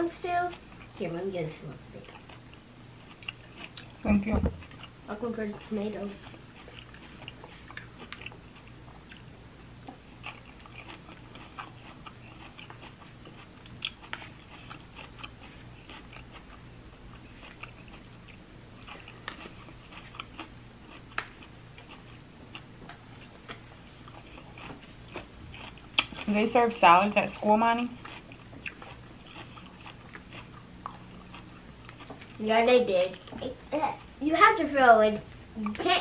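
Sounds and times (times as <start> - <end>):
faint steady low hum: 0.0 - 36.0
crunchy chewing of salad greens: 2.0 - 4.0, 4.6 - 32.4.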